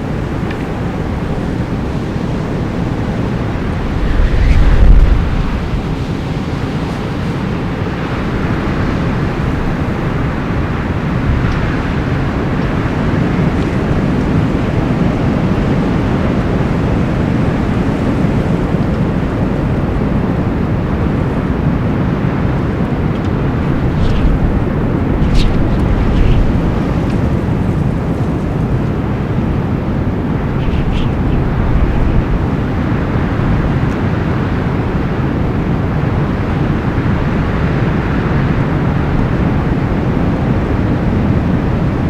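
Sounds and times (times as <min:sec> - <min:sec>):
faint wind whistles: 0:00.0 - 0:42.0
strong wind rushing: 0:00.0 - 0:42.0.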